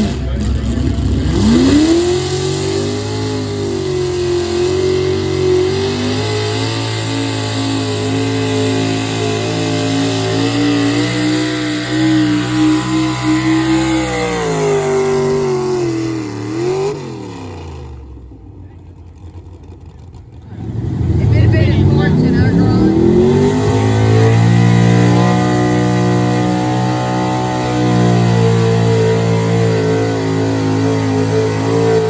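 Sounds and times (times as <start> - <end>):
engine revving under heavy load: 0.0 - 32.0.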